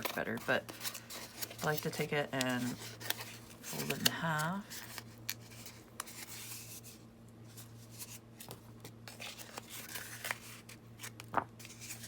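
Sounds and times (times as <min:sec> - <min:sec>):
cardstock rustling and creaking: 0:00.0 - 0:06.9, 0:07.5 - 0:12.0.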